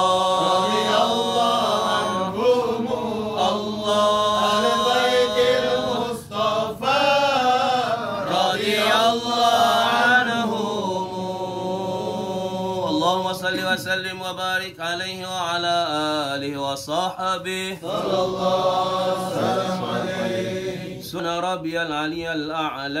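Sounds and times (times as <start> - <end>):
men chanting together: 0.0 - 22.1.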